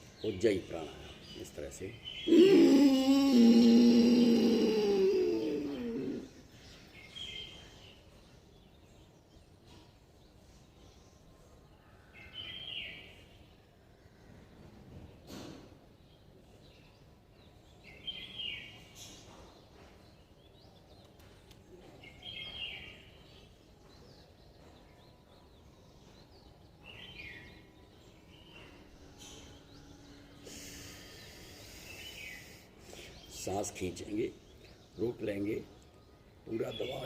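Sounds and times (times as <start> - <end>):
bird chirping: 0.0 - 13.6, 15.3 - 37.0
faint outdoor background noise: 0.0 - 37.0.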